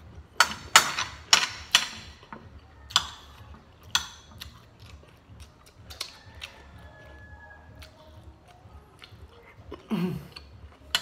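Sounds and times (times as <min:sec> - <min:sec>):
chewing food: 0:02.1 - 0:11.0.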